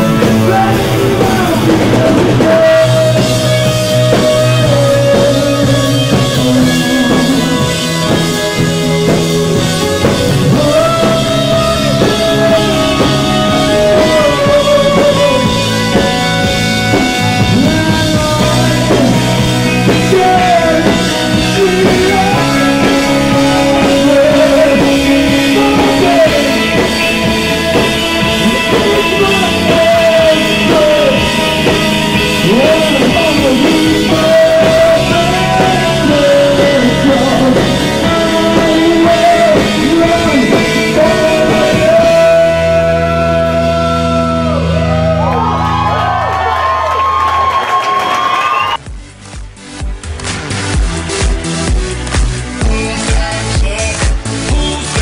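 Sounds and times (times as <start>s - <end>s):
man singing: 0.0s - 46.2s, 52.5s - 55.0s
distorted electric guitar: 0.0s - 55.0s
drum kit: 0.0s - 55.0s.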